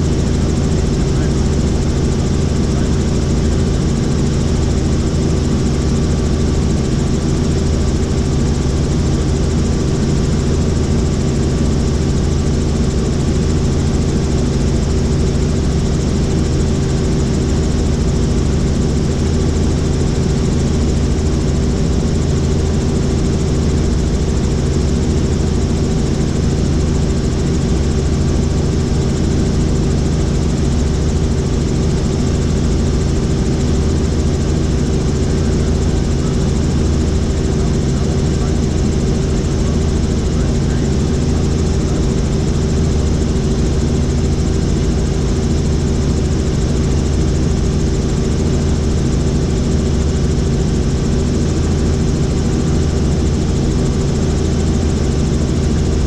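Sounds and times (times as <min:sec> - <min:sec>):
helicopter in flight: 0:00.0 - 0:56.0.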